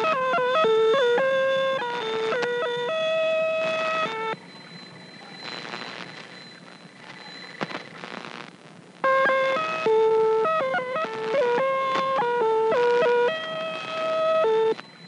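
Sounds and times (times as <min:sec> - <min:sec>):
steady radio tone: 0:00.0 - 0:15.0
radio static: 0:01.0 - 0:15.0.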